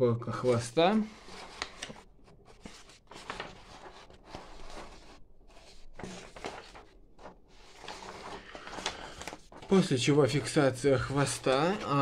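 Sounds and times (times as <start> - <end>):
paper pages rustling: 0.4 - 12.0.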